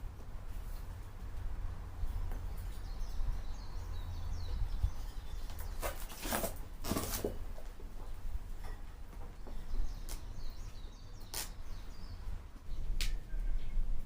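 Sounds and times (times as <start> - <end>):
birds chirping faintly: 0.0 - 14.0.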